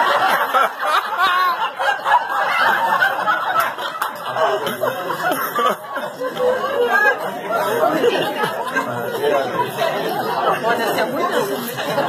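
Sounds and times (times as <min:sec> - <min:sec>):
overlapping talk: 0:00.0 - 0:12.0
people chuckling and laughing: 0:00.0 - 0:12.0.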